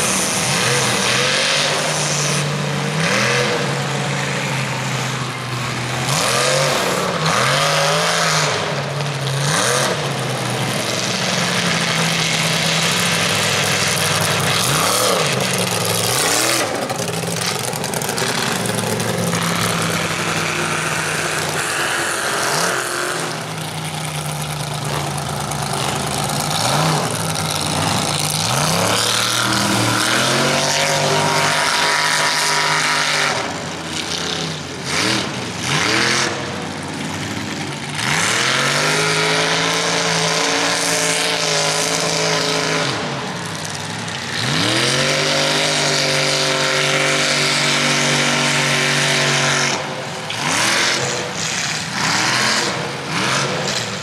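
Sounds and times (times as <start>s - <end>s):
engines revving: 0.0s - 54.0s.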